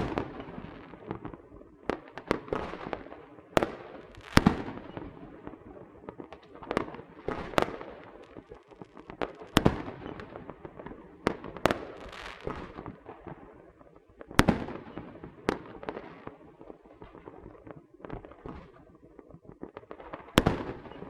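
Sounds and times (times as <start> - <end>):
firework crackles: 0.0 - 21.0.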